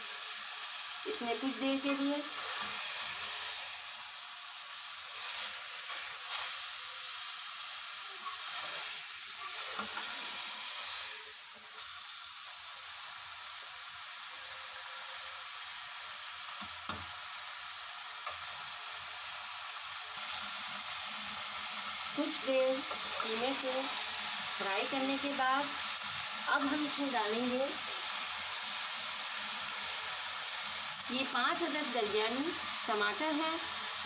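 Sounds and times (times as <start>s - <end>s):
meat and onions sizzling: 0.0s - 34.0s.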